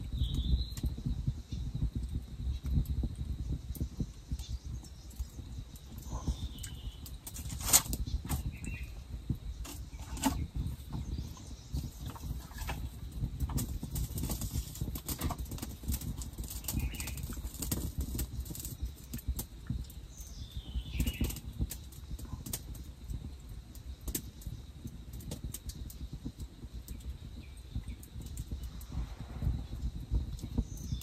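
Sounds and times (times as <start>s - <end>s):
campfire crackling and popping: 0.0s - 31.0s
steady low rumble: 0.0s - 31.0s.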